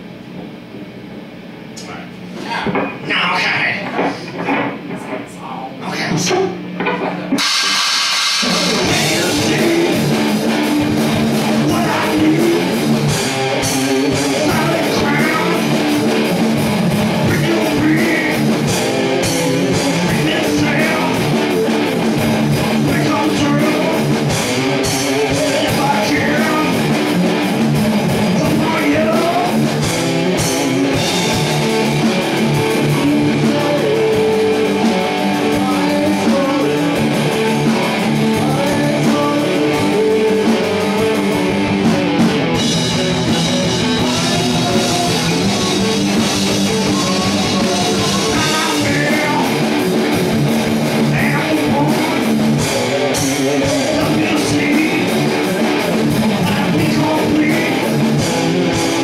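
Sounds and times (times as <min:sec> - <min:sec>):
drum kit: 0:06.0 - 0:59.0
electric guitars playing riffs: 0:06.2 - 0:59.0.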